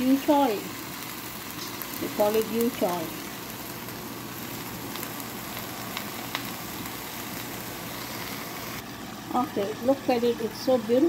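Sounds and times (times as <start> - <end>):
noodles sizzling in a hot pan: 0.0 - 11.0.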